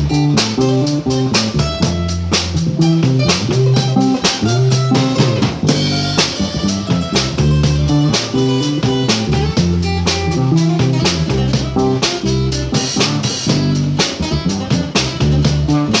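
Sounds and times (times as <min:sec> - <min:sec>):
drum kit beat: 0:00.0 - 0:16.0
second guitar: 0:00.0 - 0:16.0
strummed acoustic guitar: 0:00.0 - 0:16.0.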